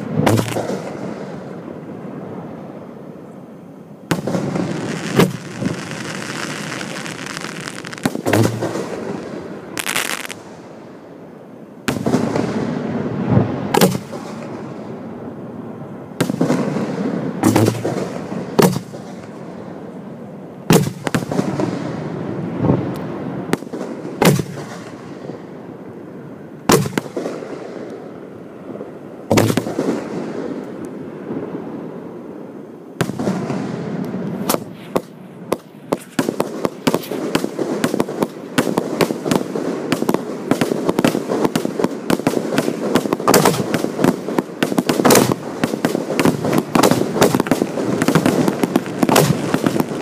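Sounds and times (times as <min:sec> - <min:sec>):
fireworks bangs: 0:00.0 - 0:02.5, 0:04.1 - 0:10.8, 0:11.8 - 0:15.0, 0:16.2 - 0:19.4, 0:20.7 - 0:25.5, 0:28.8 - 0:31.8, 0:33.0 - 0:50.0.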